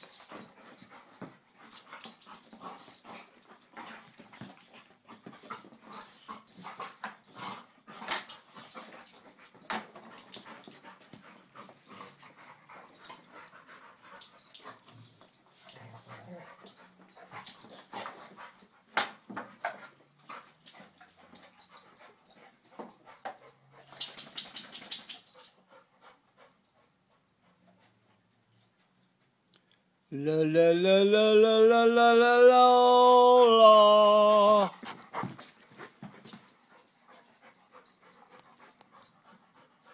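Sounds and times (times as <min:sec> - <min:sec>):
dogs scuffling and mouthing: 0:00.0 - 0:29.3, 0:33.4 - 0:39.9.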